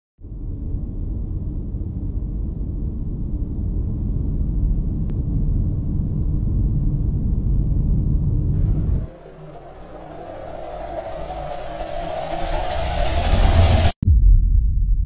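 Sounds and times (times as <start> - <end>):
deep cinematic rumble: 0.2 - 15.0.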